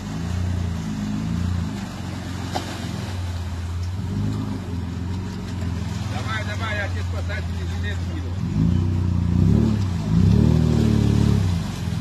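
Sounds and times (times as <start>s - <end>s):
engine revving through muddy water: 0.0s - 12.0s.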